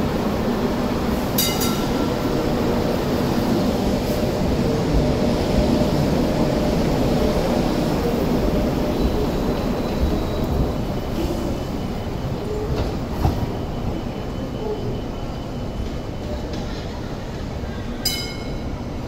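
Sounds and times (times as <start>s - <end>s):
tram wheels rumbling: 0.0s - 19.0s.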